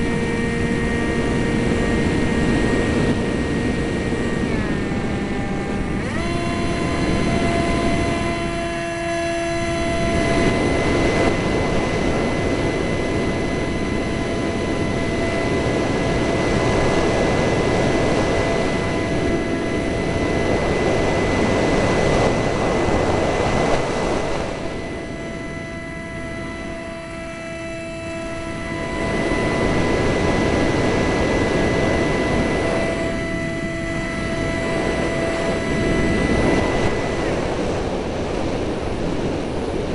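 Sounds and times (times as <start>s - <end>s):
jet engines whining: 0.0s - 39.9s
wind hitting microphone: 0.0s - 39.9s.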